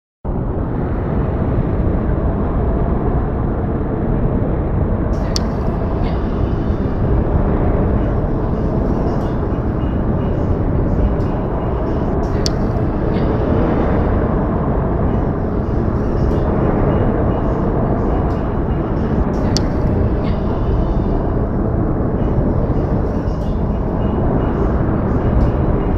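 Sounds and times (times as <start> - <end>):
low rumbling outdoor noise: 0.3 - 25.9.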